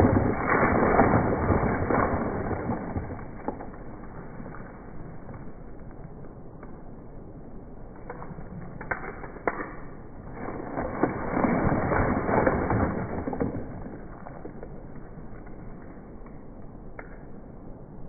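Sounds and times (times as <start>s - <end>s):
crackling and crunching: 0.0s - 6.9s, 7.9s - 17.2s.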